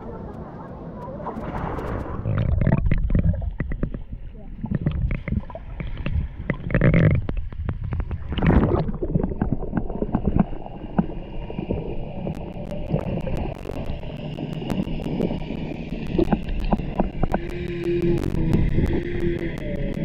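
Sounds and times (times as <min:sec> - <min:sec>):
underwater rumble with gurgling: 0:00.0 - 0:20.0
bubbly rushes: 0:01.4 - 0:19.1
sharp underwater clicks: 0:01.4 - 0:20.0.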